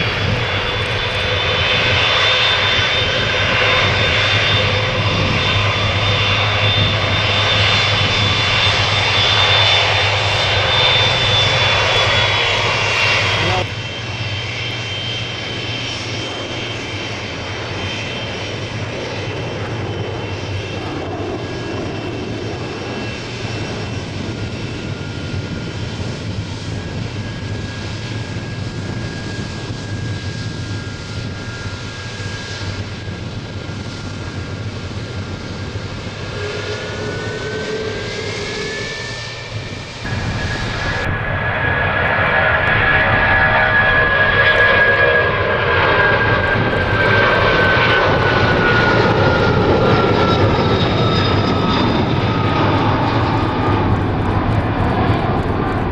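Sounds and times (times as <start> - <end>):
jet engines whining: 0.0 - 55.9.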